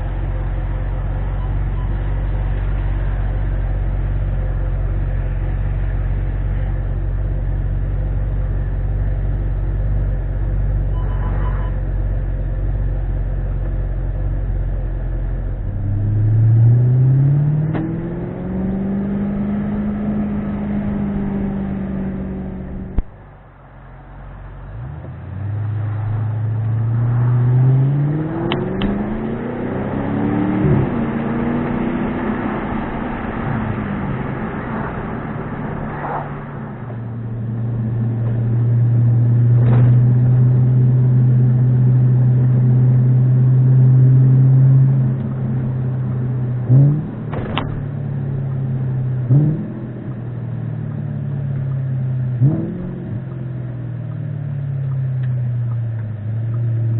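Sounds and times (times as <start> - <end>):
car engine accelerating: 0.0 - 56.9.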